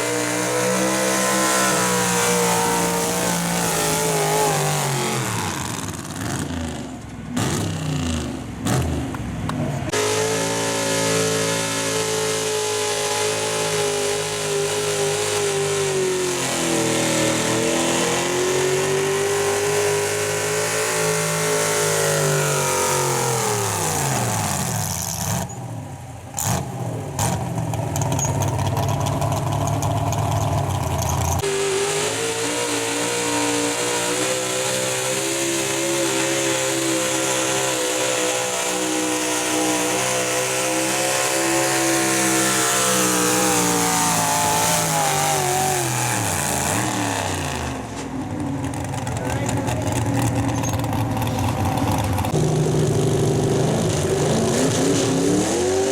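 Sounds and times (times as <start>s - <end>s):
truck engine at high revs: 0.0s - 55.9s.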